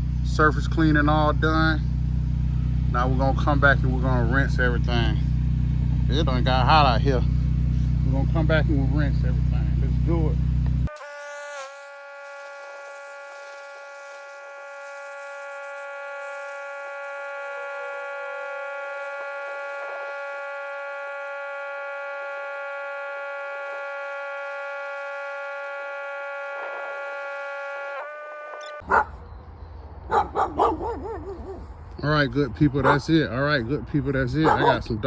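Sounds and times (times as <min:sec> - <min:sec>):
pressure washer whining: 0:00.0 - 0:29.2.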